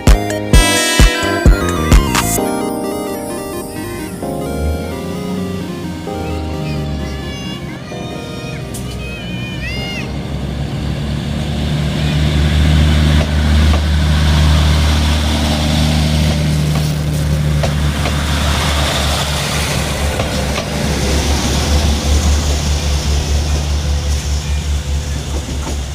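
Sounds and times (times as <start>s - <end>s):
diesel locomotive engine drone: 0.0s - 25.9s.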